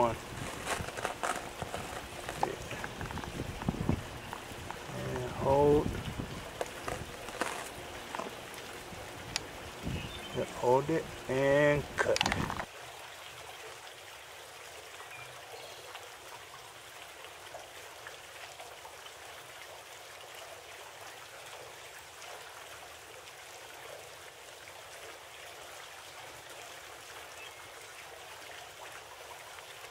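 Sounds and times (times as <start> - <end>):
faint hiss of running water: 0.0 - 29.9.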